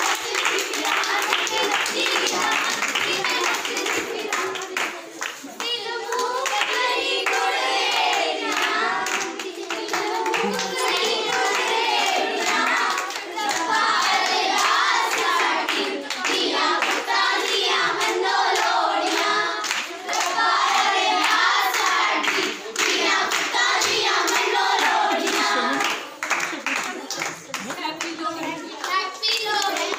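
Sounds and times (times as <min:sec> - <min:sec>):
girls singing in chorus: 0:00.0 - 0:27.3
rhythmic hand clapping: 0:00.0 - 0:29.9.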